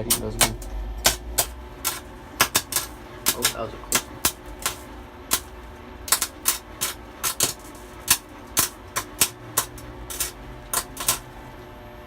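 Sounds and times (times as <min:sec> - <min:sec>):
welder arc crackling and popping: 0:00.0 - 0:11.6.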